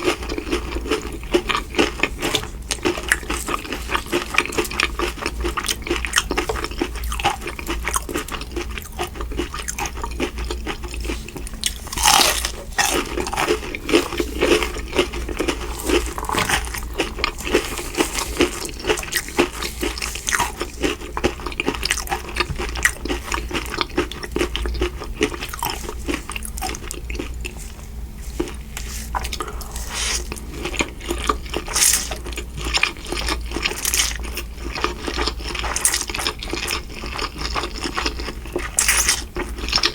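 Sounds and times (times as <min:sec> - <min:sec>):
chewing noodles: 0:00.0 - 0:39.9.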